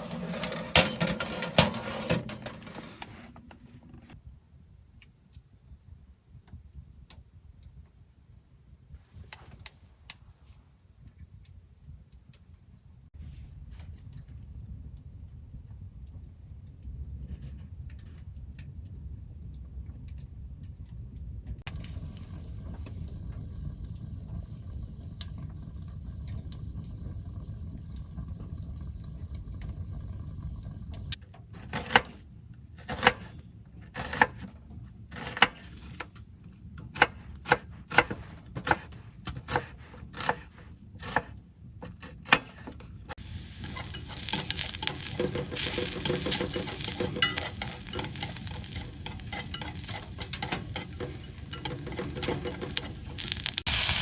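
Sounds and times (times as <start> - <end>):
low steady rumble: 0.0 - 54.0.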